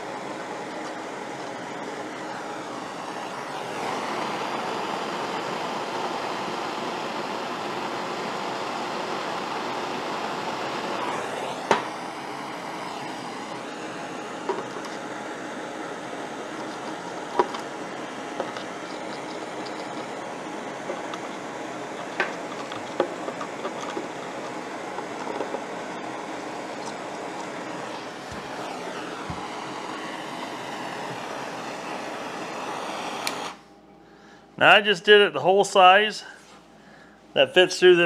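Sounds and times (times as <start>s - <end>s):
gas torch hissing: 0.0s - 33.7s
fan humming: 0.0s - 38.0s.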